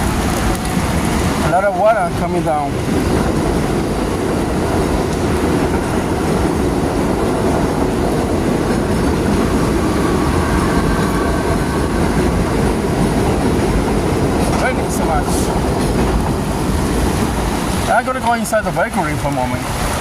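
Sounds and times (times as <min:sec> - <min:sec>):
heavy rain hissing: 0:00.0 - 0:20.0
train wheels rumbling on rails: 0:00.0 - 0:20.0.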